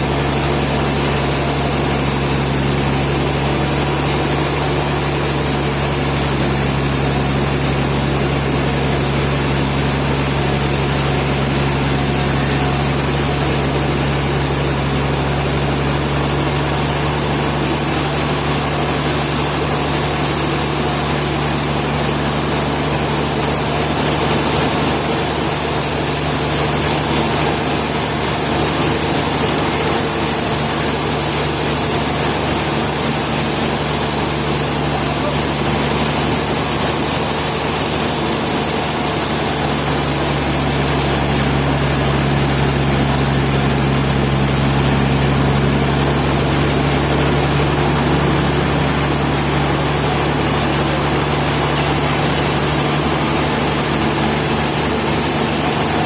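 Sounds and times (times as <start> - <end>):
sawmill engine humming: 0.0 - 56.0.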